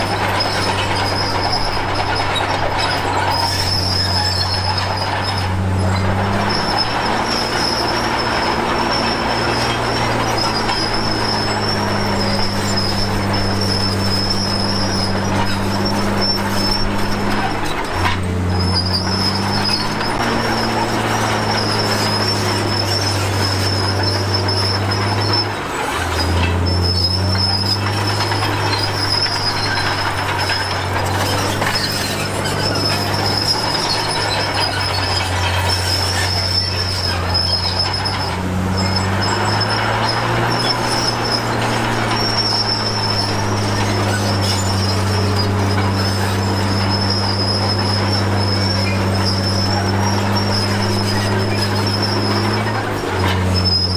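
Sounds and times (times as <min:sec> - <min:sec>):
bulldozer diesel engine humming: 0:00.0 - 0:53.9
steel tracks squealing: 0:00.0 - 0:53.9.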